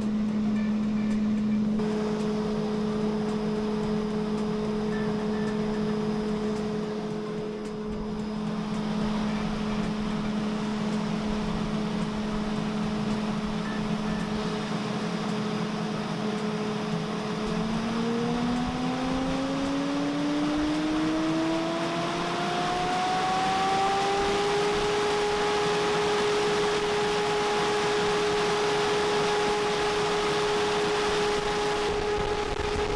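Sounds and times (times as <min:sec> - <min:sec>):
hammer mill whirring: 0:00.0 - 0:32.9.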